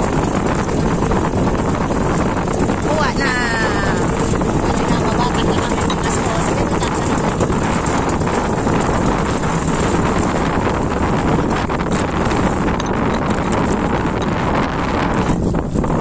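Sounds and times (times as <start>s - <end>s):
choppy water: 0.0s - 16.0s
wind buffeting microphone: 0.0s - 16.0s.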